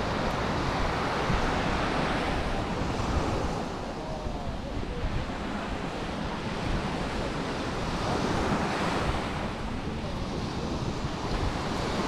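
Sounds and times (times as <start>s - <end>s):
surf washing onto beach: 0.0s - 12.0s
wind on microphone: 0.0s - 12.0s.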